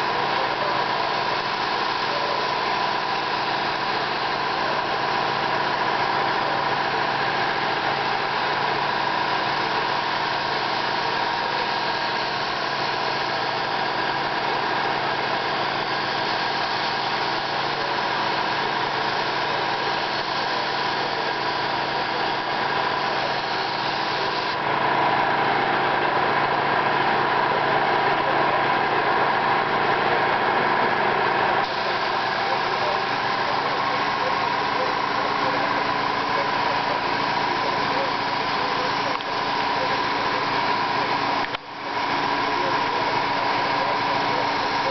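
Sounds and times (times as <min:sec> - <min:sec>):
spray gun hissing: 0:00.0 - 0:24.7, 0:31.6 - 0:44.9
motor running: 0:00.0 - 0:44.9.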